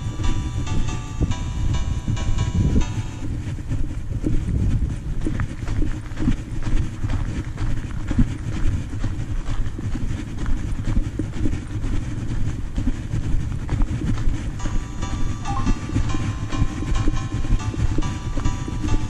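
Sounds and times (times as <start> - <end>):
wind buffeting microphone: 0.0 - 19.0
footsteps on gravel: 2.8 - 19.0.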